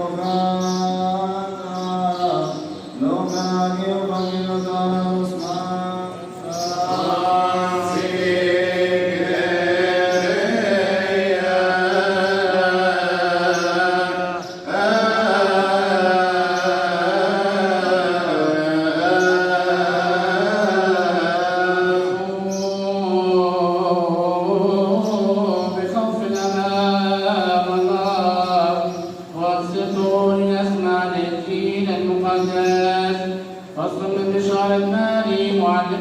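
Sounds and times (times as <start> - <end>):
man chanting solo: 0.0 - 36.0.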